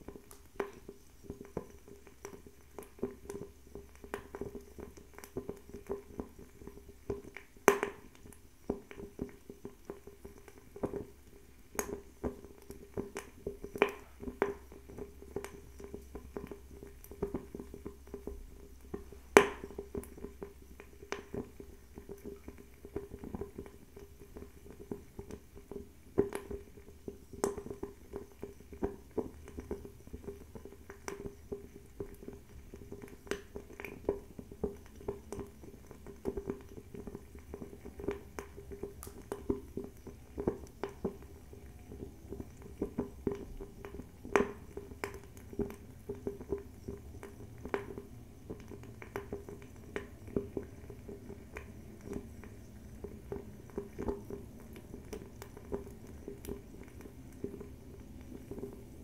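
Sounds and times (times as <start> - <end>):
fire crackling: 0.0 - 59.0
sharp pops and snaps: 0.0 - 59.0.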